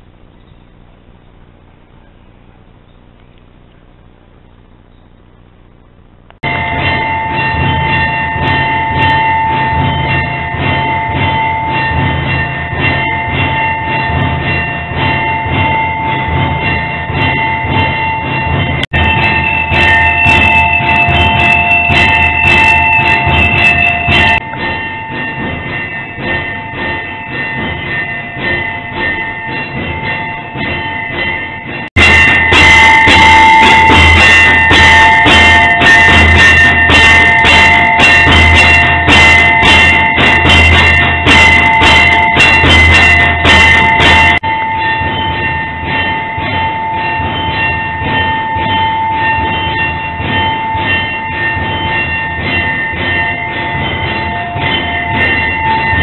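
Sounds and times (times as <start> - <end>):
drum beating: 0.0 - 56.0
machine ringing bells: 0.0 - 56.0.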